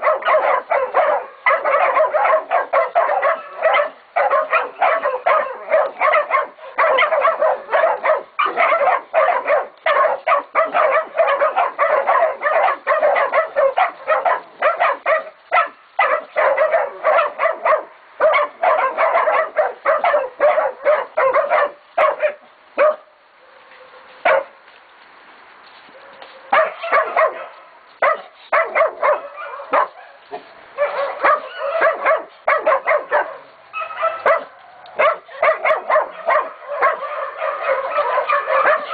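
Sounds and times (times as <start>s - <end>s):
puppies barking rapidly: 0.0s - 23.0s, 26.5s - 38.9s.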